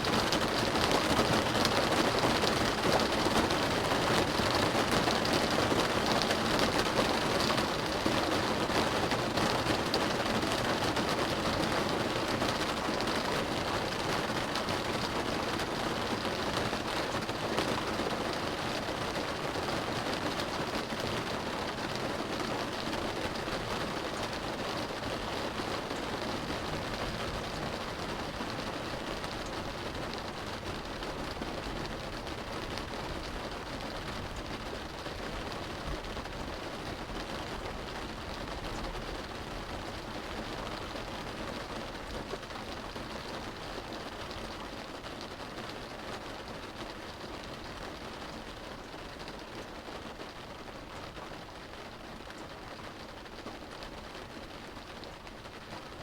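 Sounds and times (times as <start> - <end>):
rain drumming on a car roof: 0.0 - 56.0.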